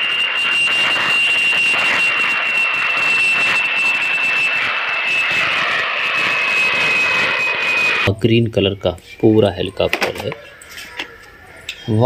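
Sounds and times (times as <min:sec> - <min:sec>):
jet airliner engines whining: 0:00.0 - 0:12.0.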